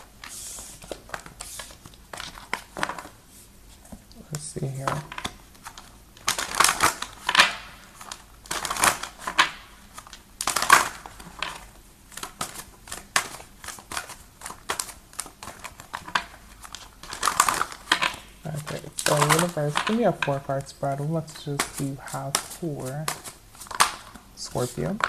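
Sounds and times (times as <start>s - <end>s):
cards being shuffled: 0.0s - 25.0s.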